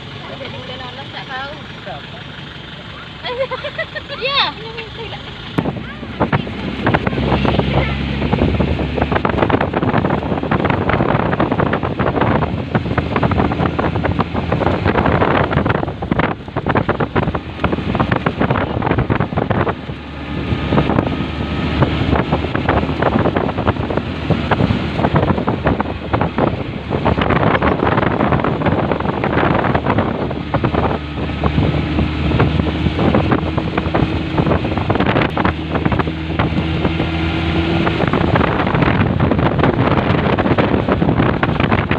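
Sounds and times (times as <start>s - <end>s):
vehicle engine running: 0.0s - 41.9s
wind buffeting microphone: 3.3s - 41.9s.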